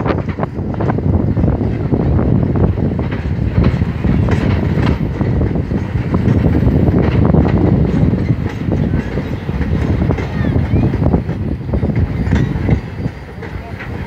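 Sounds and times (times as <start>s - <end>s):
train wheels rumbling on rail: 0.0s - 14.0s
wheels clicking over rail joints: 0.0s - 14.0s.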